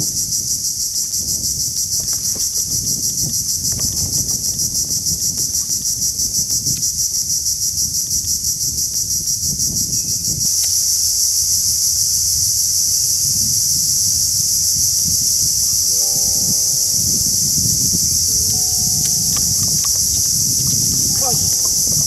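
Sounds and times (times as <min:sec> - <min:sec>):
shrill insect chorus: 0:00.0 - 0:22.0.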